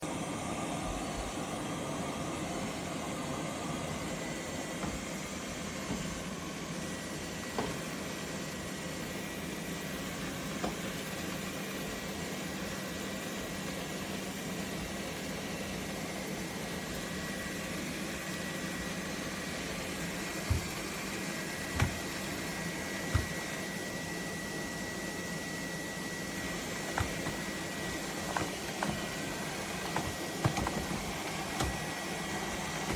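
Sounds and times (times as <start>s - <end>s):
robot vacuum suction fan whine: 0.0s - 32.9s.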